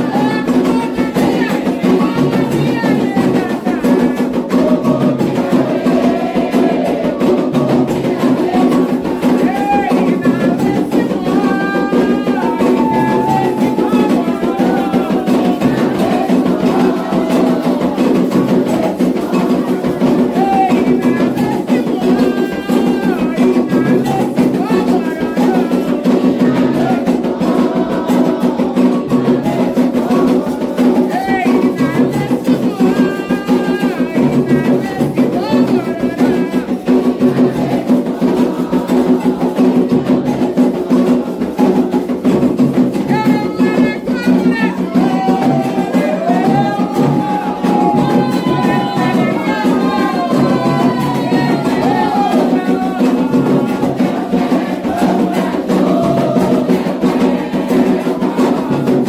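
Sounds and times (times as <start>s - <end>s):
hand drums: 0.0s - 59.0s
voices singing a chant: 0.0s - 59.0s.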